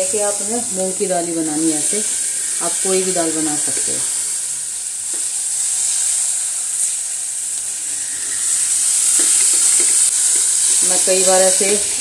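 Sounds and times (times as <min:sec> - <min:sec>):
lentils sizzling in ghee: 0:00.0 - 0:12.0.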